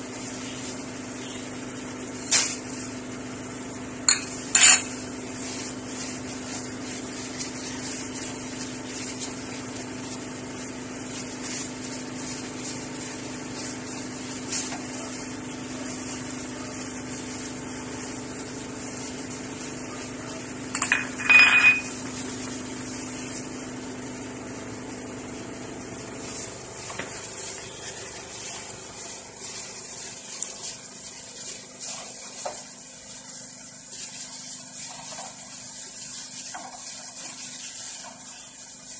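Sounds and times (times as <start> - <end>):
foil crinkling: 0.0 - 38.9.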